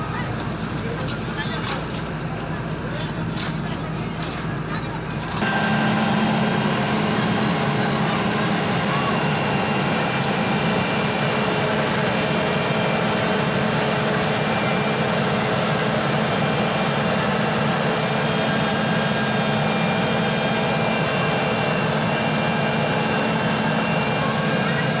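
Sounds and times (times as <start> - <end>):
construction machine engine running: 0.0 - 25.0.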